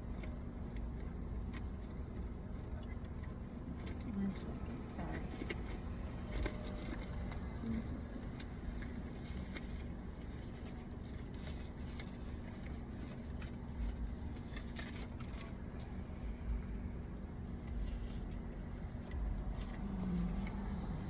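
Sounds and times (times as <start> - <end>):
car engine idling: 0.0 - 21.0
faint small clicks and rustles: 0.0 - 21.0.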